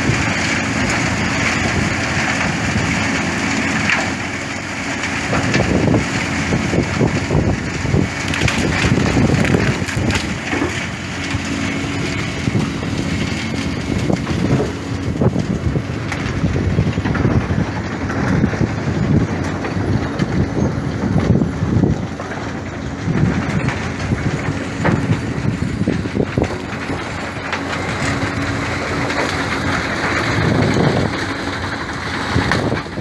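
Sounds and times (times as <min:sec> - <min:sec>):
heavy machine engine rumbling: 0:00.0 - 0:33.0.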